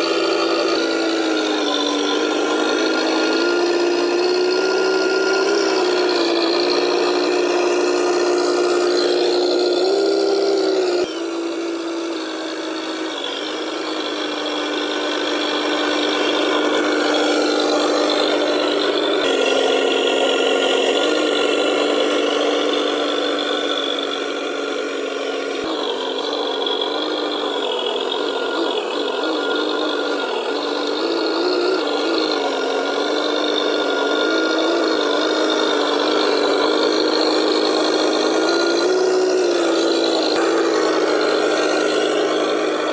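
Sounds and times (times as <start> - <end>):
simulated truck engine sound: 0.0 - 42.9.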